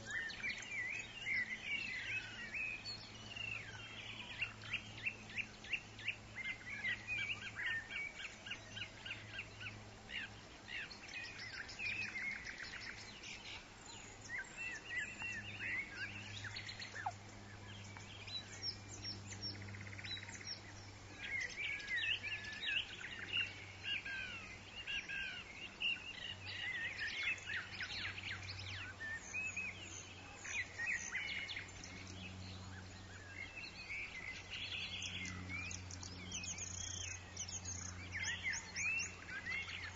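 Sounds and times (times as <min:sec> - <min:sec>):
bird calls chirps and trills: 0:00.0 - 0:39.9
steady low hum: 0:00.0 - 0:39.9.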